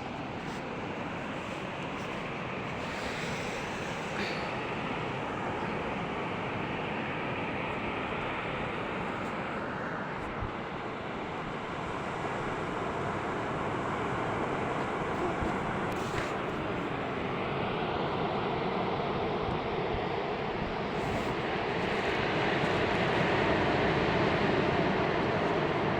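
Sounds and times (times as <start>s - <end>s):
sea waves washing on a beach: 0.0s - 25.9s.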